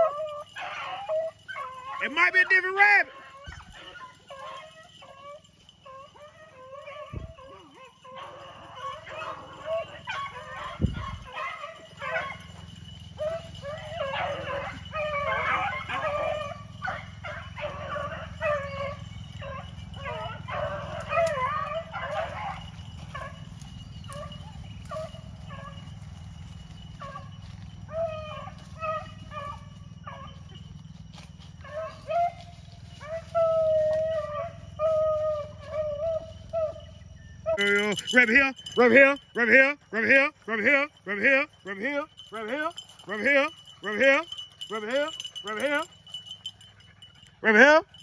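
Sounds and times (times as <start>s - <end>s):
hounds baying: 0.0s - 48.0s.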